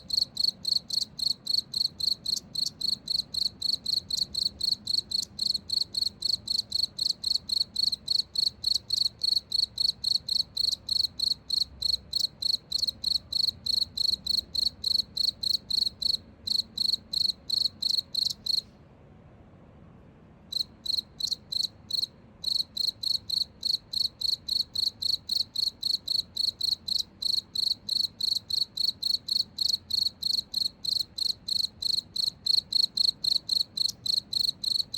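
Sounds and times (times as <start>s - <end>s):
cricket chirping: 0.0s - 18.7s, 20.5s - 34.9s.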